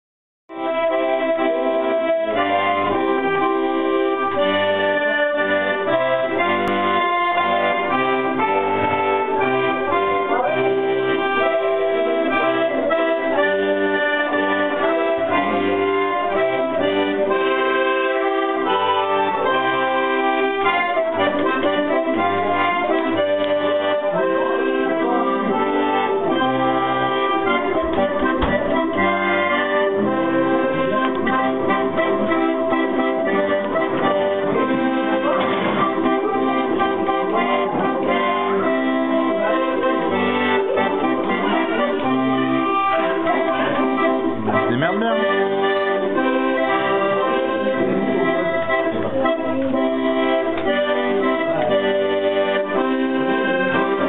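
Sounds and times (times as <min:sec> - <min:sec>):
button accordion playing: 0:00.5 - 0:54.0.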